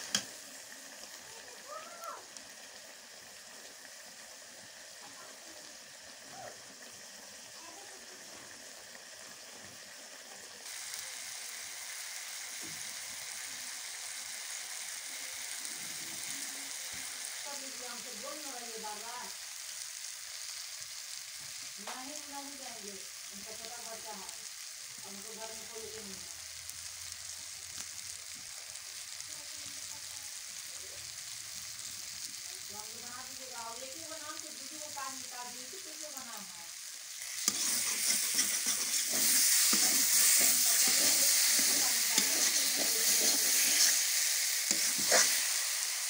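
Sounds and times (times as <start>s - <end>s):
vegetables sizzling in hot oil: 0.0s - 46.0s.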